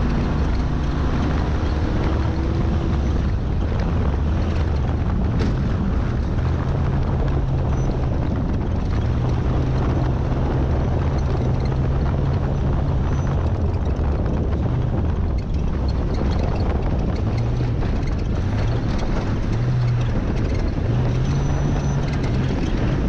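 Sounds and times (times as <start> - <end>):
truck engine running: 0.0 - 23.0
tyre noise: 0.0 - 23.0
wind noise: 0.0 - 23.0.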